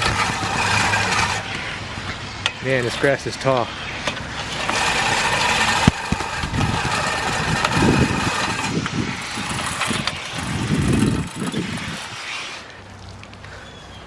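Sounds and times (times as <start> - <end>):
reel lawn mower cutting grass: 0.0 - 12.8.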